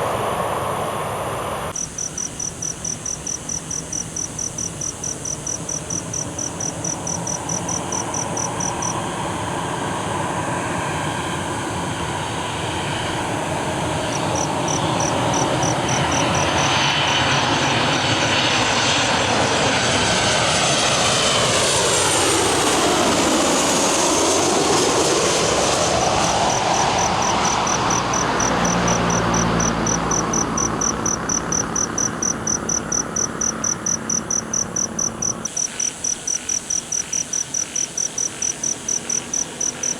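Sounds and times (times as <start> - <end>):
crickets chirping: 0.0 - 39.9
jet airliner passing overhead: 0.0 - 39.9.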